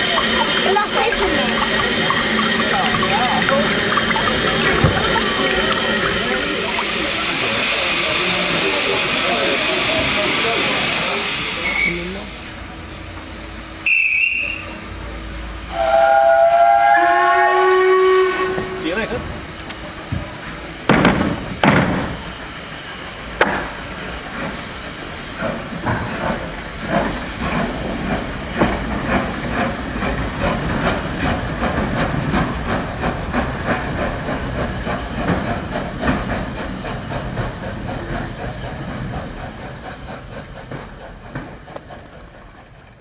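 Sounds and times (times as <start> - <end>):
steam hissing: 0.0 - 42.7
steam exhaust beats: 0.0 - 43.0.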